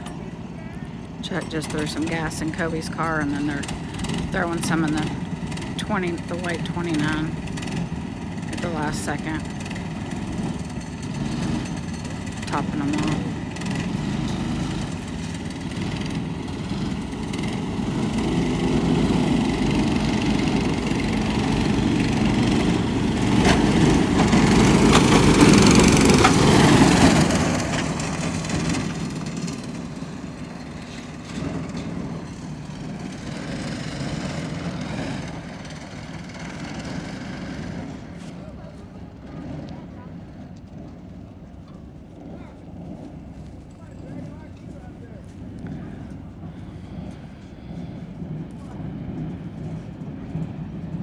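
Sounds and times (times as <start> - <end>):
go-kart engines running: 0.0 - 51.0.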